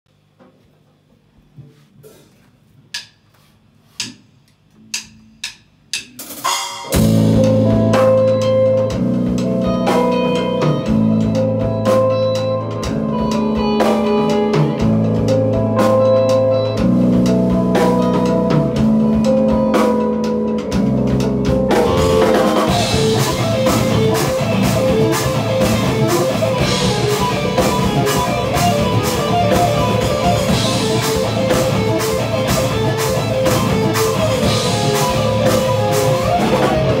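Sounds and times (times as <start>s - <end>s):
drum kit: 1.6s - 37.0s
bass guitar: 4.0s - 37.0s
distorted electric guitars: 4.7s - 37.0s.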